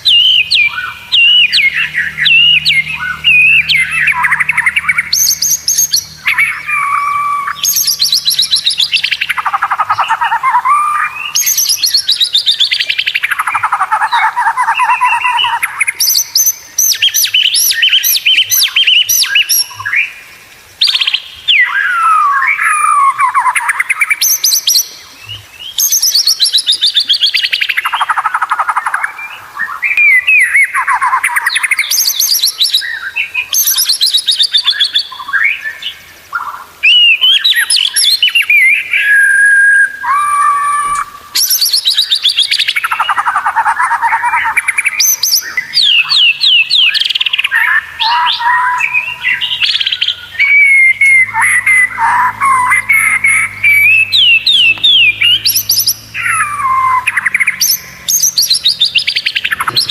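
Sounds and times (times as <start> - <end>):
songbird singing trills and whistles: 0.0 - 59.9.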